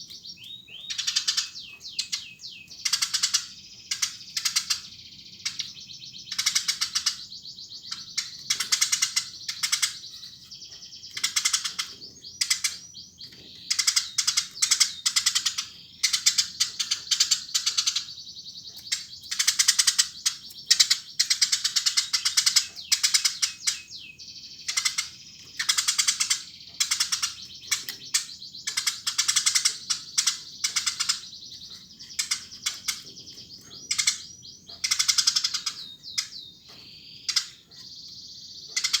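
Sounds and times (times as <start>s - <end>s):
sparrow chirping: 0.0s - 39.0s.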